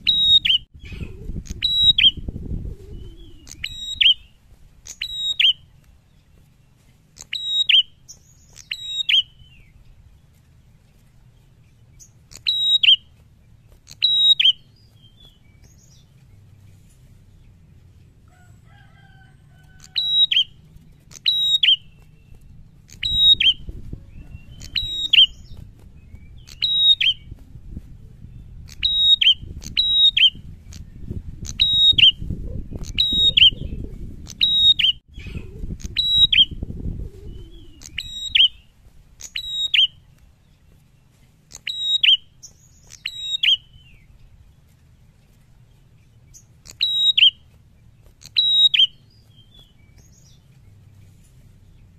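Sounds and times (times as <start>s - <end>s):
low rumbling background noise: 0.0s - 51.9s.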